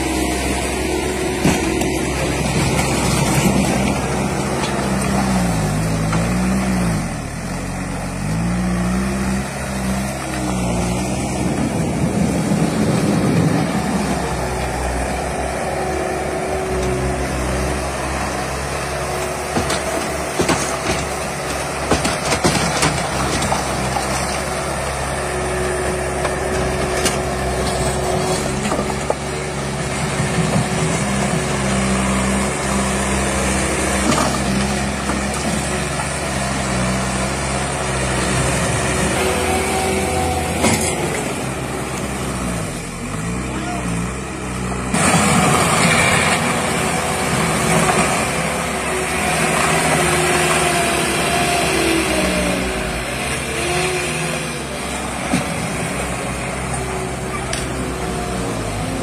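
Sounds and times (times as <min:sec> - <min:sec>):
diesel engines revving: 0:00.0 - 0:59.0.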